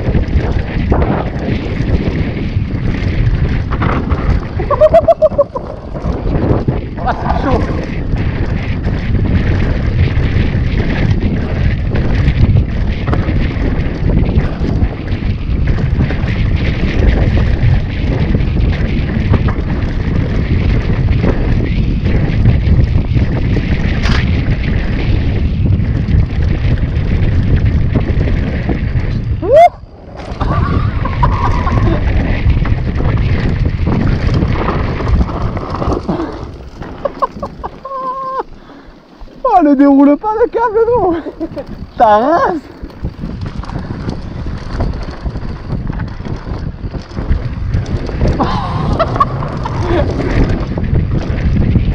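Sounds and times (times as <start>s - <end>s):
bike knocks and rattles: 0.0s - 38.2s, 39.2s - 51.9s
low rumble: 0.0s - 51.9s
wind rushing over microphone: 0.0s - 51.9s.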